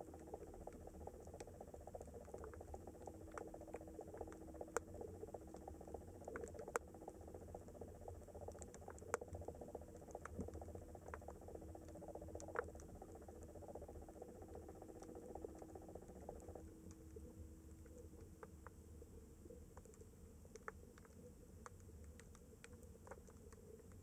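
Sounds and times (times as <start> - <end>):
underwater crackling clicks: 0.0 - 18.8, 19.5 - 24.0
steady low hum: 0.0 - 24.0.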